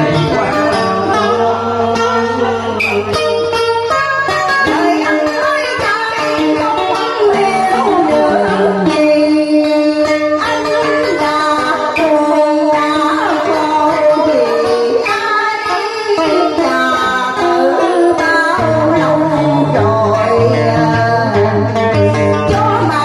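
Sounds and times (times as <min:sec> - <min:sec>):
woman singing: 0:00.0 - 0:03.3, 0:03.9 - 0:23.0
instrumental accompaniment: 0:00.0 - 0:23.0.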